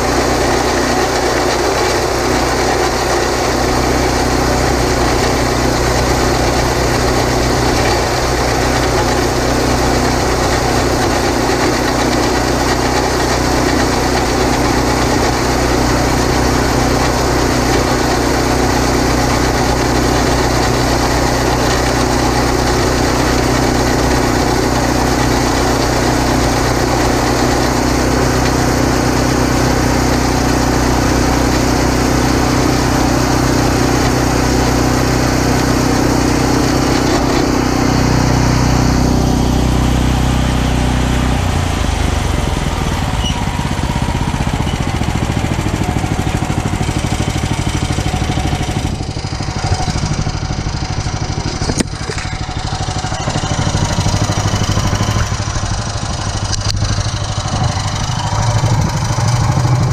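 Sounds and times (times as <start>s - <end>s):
boring machine humming: 0.0s - 59.9s.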